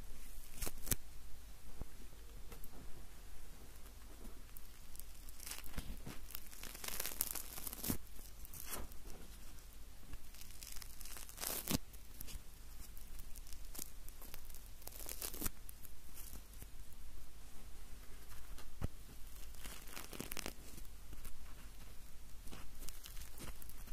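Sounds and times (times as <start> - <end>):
marshmallows tearing and crackling: 0.4 - 1.0, 3.8 - 16.7, 18.2 - 23.9.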